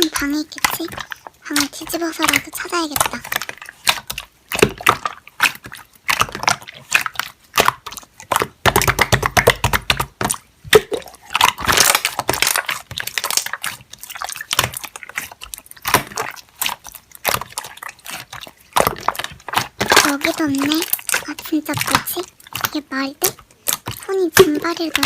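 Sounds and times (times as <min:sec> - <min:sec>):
slime squelching by hand: 0:00.0 - 0:25.0.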